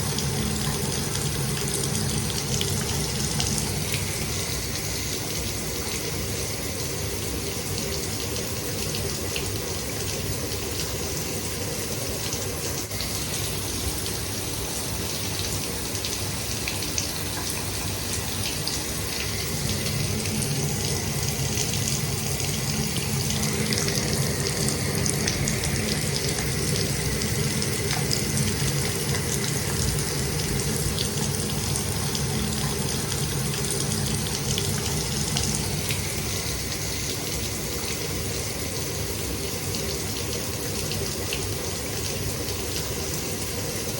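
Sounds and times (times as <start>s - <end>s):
shower water spraying: 0.0s - 11.6s, 12.5s - 43.9s.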